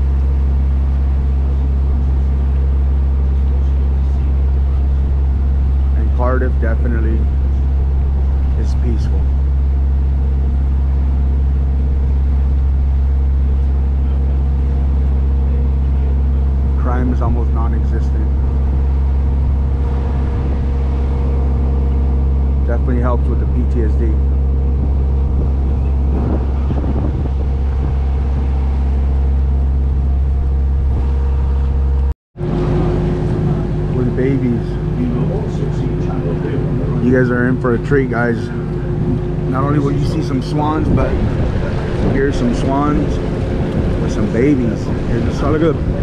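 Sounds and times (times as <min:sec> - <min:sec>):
boat engine droning: 0:00.0 - 0:46.0
wake rushing along hull: 0:00.0 - 0:46.0.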